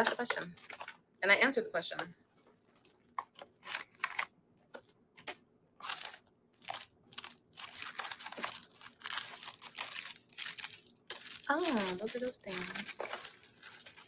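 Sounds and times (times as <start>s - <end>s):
packaging crinkling: 0.0s - 1.0s, 2.6s - 4.3s, 5.2s - 14.0s.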